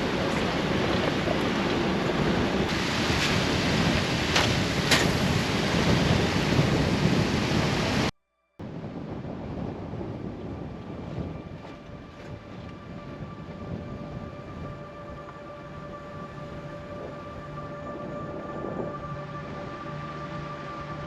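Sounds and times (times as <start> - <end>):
water rushing and splashing: 0.0 - 8.1, 10.4 - 21.0.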